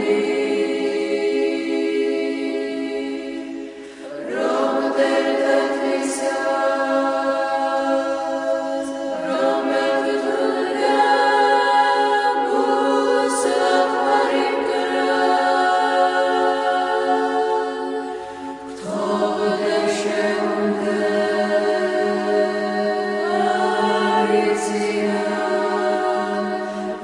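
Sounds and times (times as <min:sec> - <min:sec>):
unaccompanied choir singing: 0:00.0 - 0:27.0.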